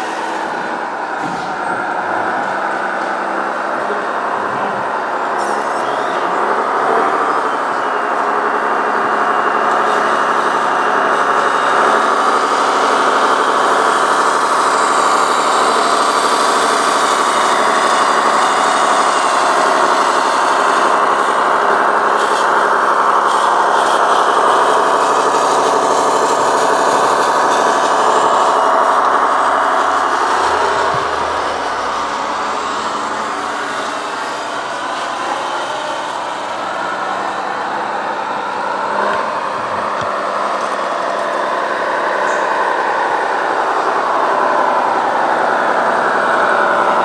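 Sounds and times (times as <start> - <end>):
model truck motor running: 0.0 - 47.0.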